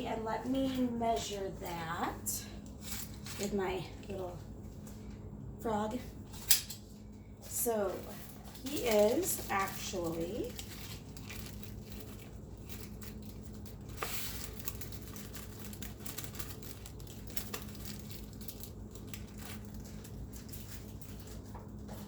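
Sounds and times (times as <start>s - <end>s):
crinkly material rustling: 0.0s - 5.2s, 5.9s - 22.0s.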